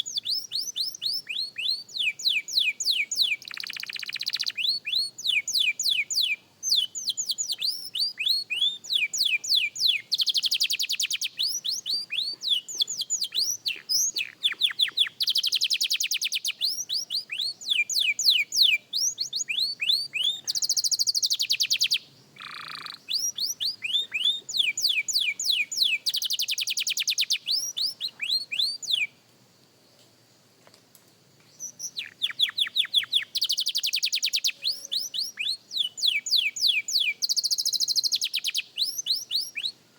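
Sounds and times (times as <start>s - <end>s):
canary singing trills: 0.0s - 29.2s, 31.5s - 39.8s.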